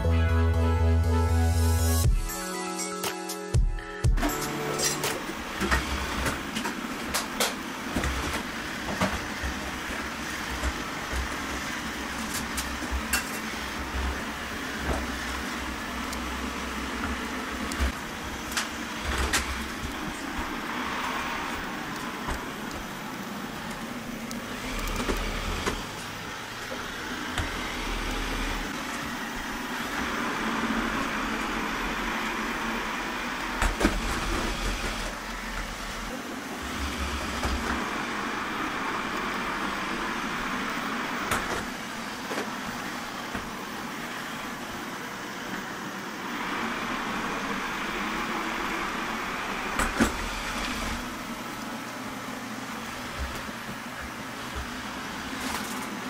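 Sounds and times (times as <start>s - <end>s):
robot vacuum whirring: 5.3s - 56.0s.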